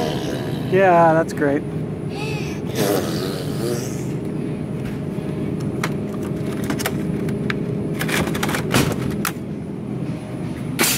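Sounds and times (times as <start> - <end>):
steady hum: 0.0 - 10.9.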